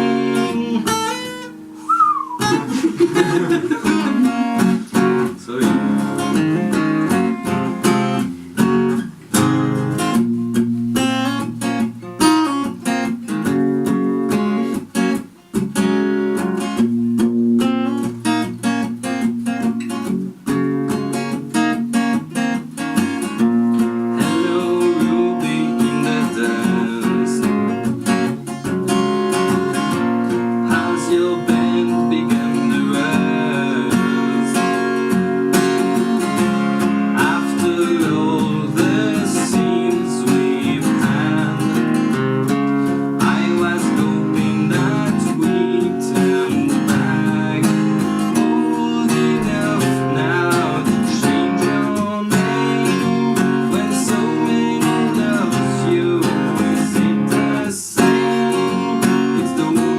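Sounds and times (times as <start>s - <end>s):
acoustic guitar strummed and picked: 0.0s - 59.9s.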